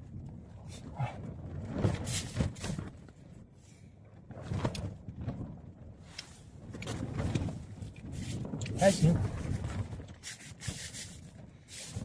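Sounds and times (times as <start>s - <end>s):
tent fabric flapping: 0.0s - 3.4s, 4.1s - 12.0s
strong wind gusting: 0.0s - 12.0s.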